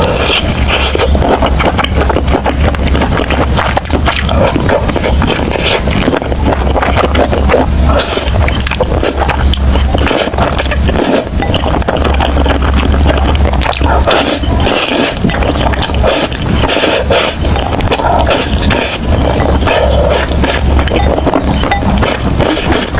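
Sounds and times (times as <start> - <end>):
crunchy biting and chewing: 0.0 - 22.9
steady low hum: 0.0 - 22.9.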